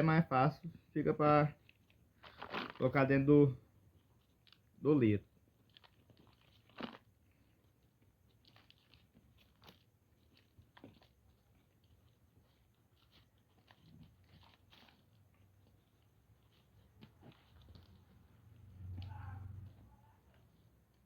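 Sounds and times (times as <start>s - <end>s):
soap flakes crunching: 1.3s - 19.4s.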